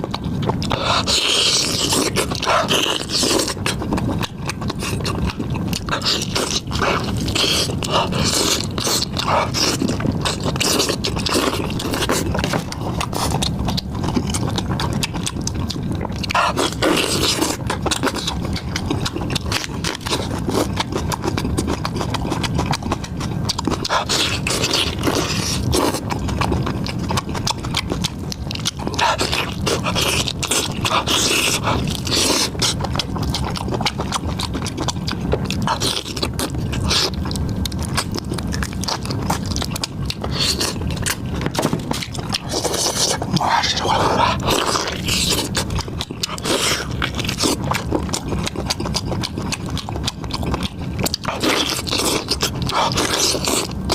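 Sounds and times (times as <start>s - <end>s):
crunchy chewing and biting: 0.0s - 53.9s.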